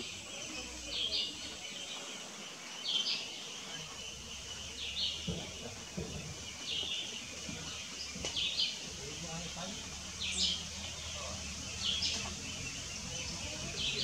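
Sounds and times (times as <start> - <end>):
bird chirping calls: 0.0 - 14.0
high background hiss: 0.0 - 14.0.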